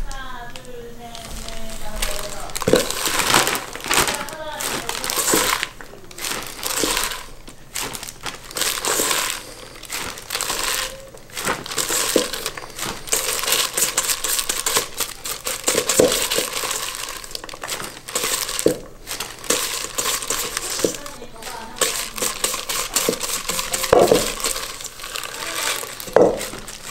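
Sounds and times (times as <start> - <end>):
plastic bag crinkling: 0.0 - 26.9.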